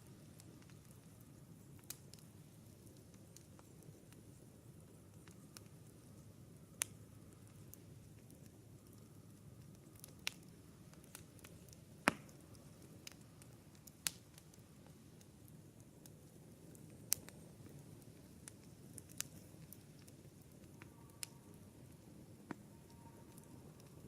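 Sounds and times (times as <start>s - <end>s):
campfire crackling and popping: 0.0s - 24.0s
low steady hiss: 0.0s - 24.0s.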